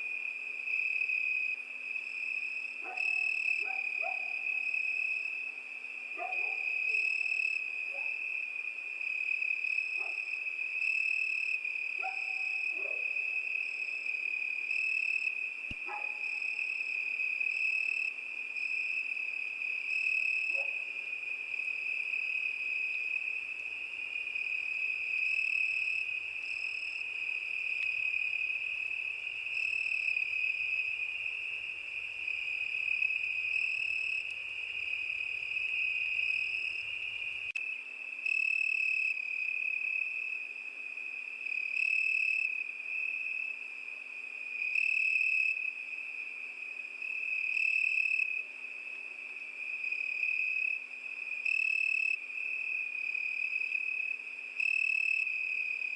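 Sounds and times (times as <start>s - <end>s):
crickets trilling: 0.1s - 55.9s.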